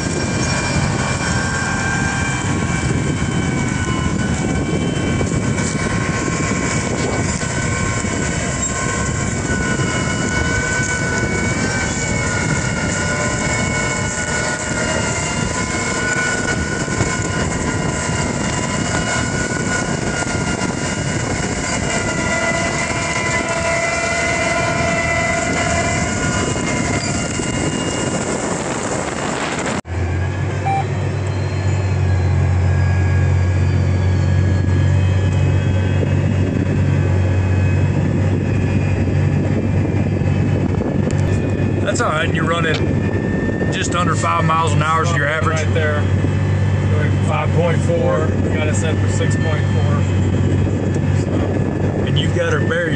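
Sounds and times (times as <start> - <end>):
deep tractor engine drone: 0.0 - 52.9.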